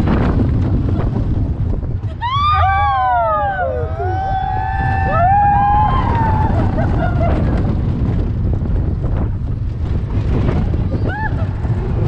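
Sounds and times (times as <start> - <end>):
roller coaster rumbling on track: 0.0 - 12.0
wind on microphone: 0.0 - 12.0.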